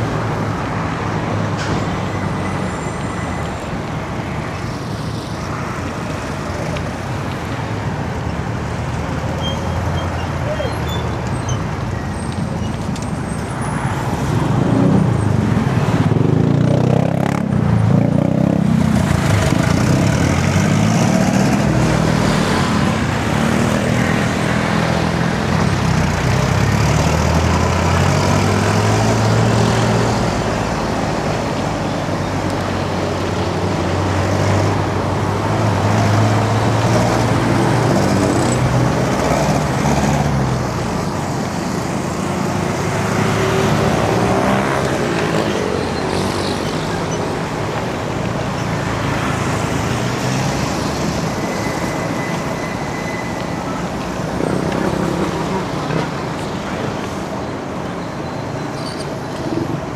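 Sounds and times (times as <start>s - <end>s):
vehicle engines passing: 0.0s - 59.9s.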